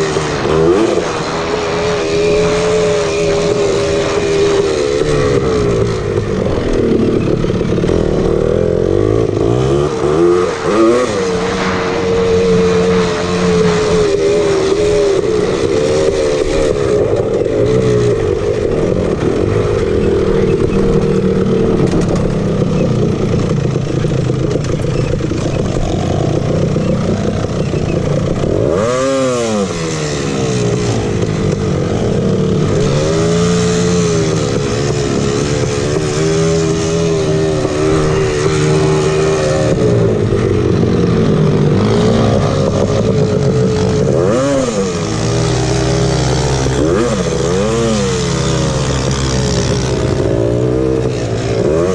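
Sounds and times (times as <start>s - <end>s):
atv engine revving: 0.0s - 51.9s.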